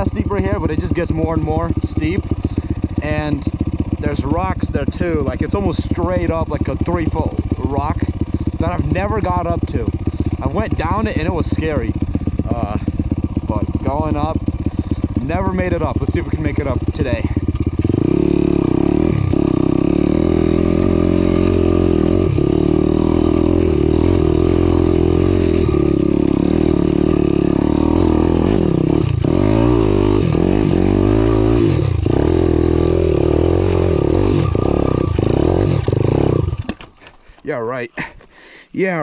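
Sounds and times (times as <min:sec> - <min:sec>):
motorcycle engine under load: 0:00.0 - 0:39.0.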